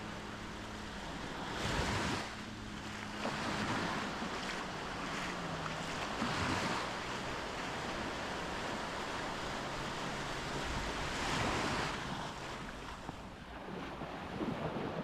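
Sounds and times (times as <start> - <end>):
sea waves washing up beach: 0.0 - 15.0.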